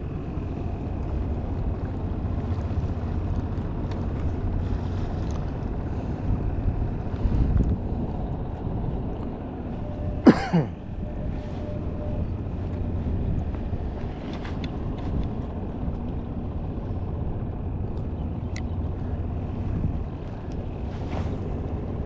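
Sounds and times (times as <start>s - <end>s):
water noise: 0.0s - 22.0s
wind: 0.0s - 22.0s.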